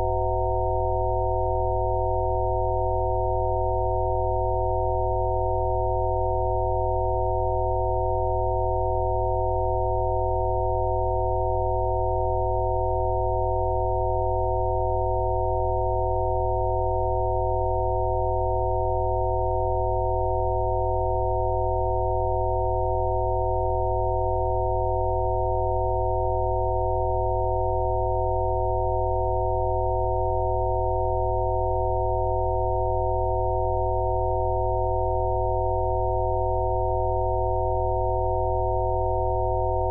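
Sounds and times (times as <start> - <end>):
sine tone drone: 0.0 - 39.9.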